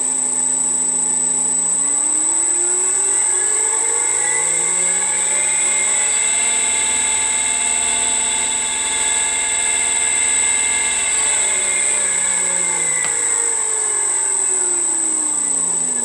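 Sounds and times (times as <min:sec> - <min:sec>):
high-pitched motor whistle: 0:00.1 - 0:16.0
electric motor hum: 0:00.3 - 0:16.0.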